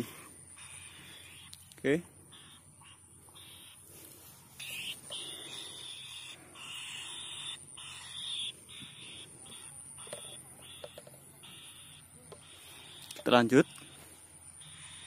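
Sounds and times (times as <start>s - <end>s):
insects calling: 0.0s - 15.0s.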